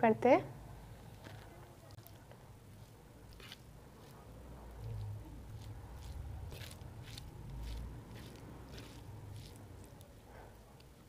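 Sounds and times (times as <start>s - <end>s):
fingers squishing rice: 1.1s - 11.0s.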